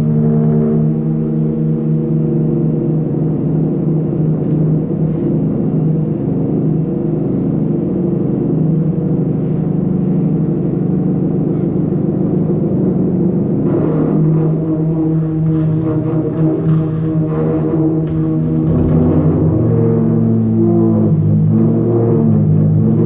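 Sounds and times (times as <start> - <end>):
drum feedback drone: 0.0 - 23.0.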